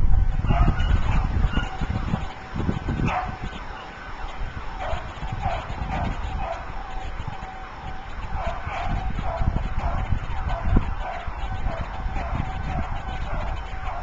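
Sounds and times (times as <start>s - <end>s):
burglar alarm falling cries: 0.0s - 14.0s
wind buffeting microphone: 0.0s - 14.0s.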